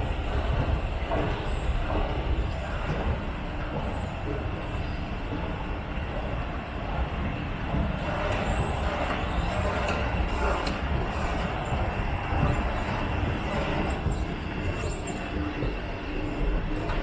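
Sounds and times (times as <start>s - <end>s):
machinery rumble and hiss: 0.0s - 17.0s.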